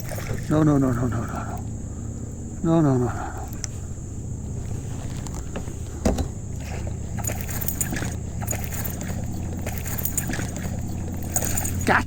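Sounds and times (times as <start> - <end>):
gear knocking in a kayak hull: 0.0 - 1.9, 3.2 - 12.0
steady low rumble: 0.0 - 12.0.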